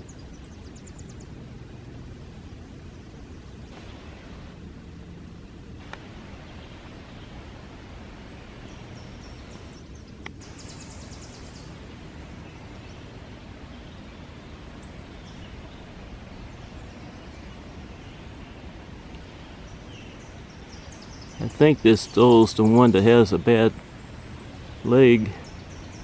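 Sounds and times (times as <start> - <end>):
outdoor hiss: 0.0 - 26.0
wind buffeting microphone: 0.0 - 26.0.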